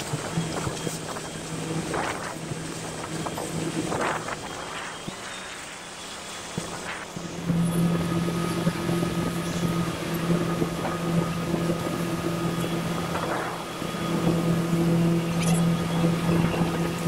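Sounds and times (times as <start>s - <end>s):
motor humming steadily: 0.0s - 17.0s.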